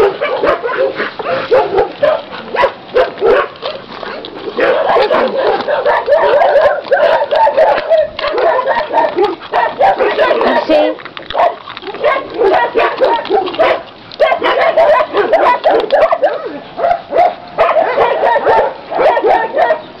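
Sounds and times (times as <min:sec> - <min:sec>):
dogs barking and yelping: 0:00.0 - 0:20.0.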